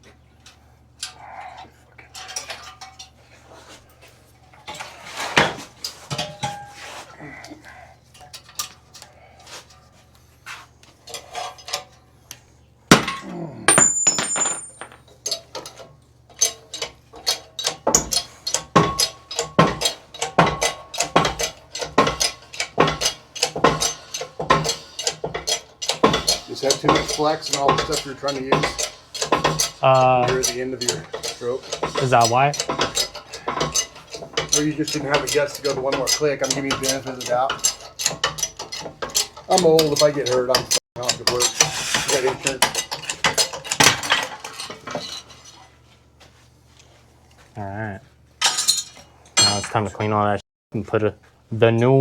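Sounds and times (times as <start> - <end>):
steel tools clanking on metal: 0.0 - 45.8, 48.4 - 50.1.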